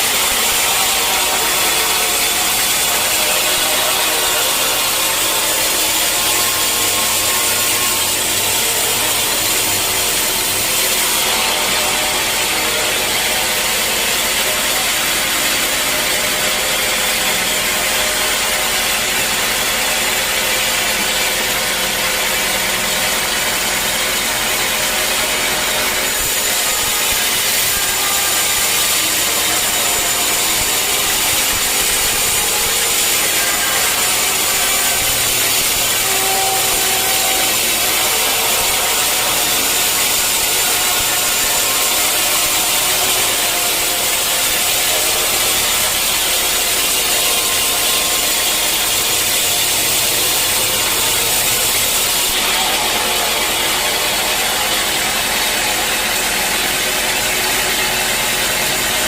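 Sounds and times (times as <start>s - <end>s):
machine whine: 0.0s - 59.0s
saw cutting through log: 0.0s - 59.0s.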